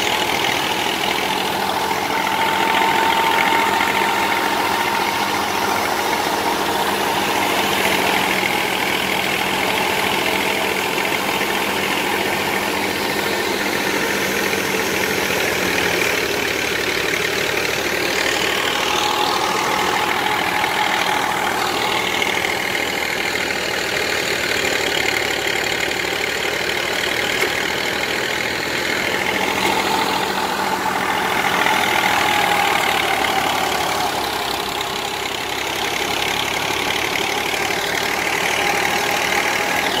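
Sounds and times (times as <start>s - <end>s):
thresher machine hum: 0.0s - 40.0s.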